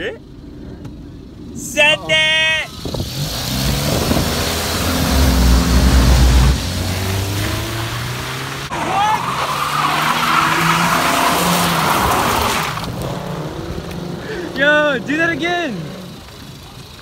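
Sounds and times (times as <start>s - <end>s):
tires squealing on asphalt: 2.6s - 16.6s
car engine revving: 2.7s - 16.4s.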